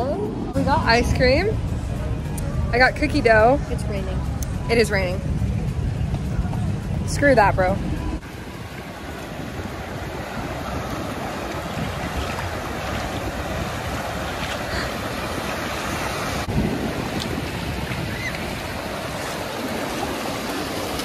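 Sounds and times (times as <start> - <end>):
wind buffeting microphone: 0.0 - 21.0
ocean surf: 3.6 - 21.0
wind rushing: 3.6 - 21.0.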